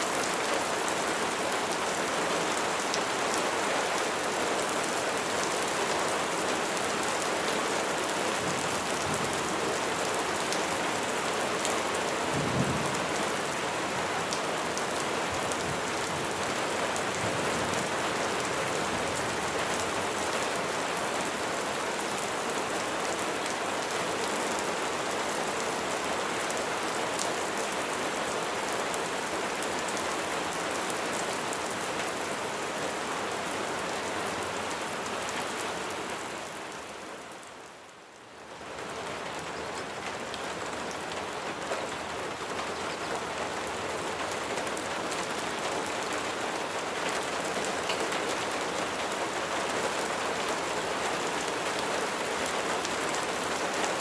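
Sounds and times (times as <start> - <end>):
rain falling on a surface: 0.0 - 54.0.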